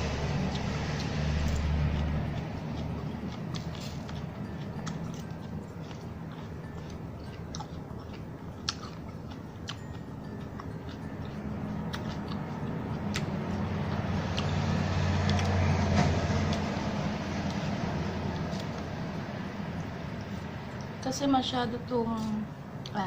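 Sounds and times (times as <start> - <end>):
chewing crisp salad: 0.0 - 21.5.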